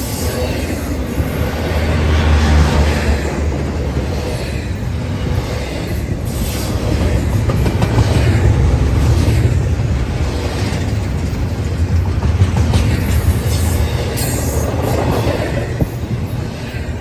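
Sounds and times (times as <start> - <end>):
freight train rumbling past: 0.0 - 17.0
wheels clacking over rail joints: 0.0 - 17.0.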